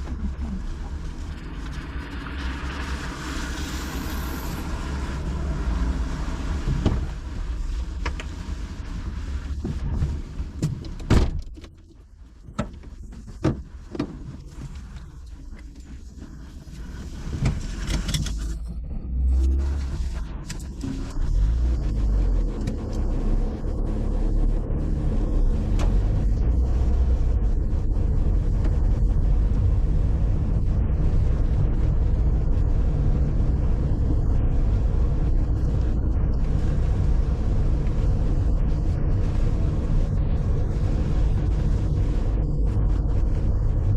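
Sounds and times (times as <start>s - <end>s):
car engine rumble: 0.0s - 43.9s
road noise: 0.0s - 43.9s.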